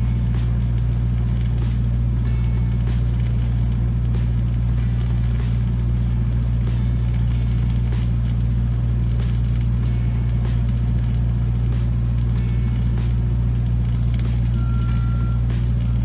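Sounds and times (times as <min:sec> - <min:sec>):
welding arc crackling: 0:00.0 - 0:16.0
welding machine engine running: 0:00.0 - 0:16.0.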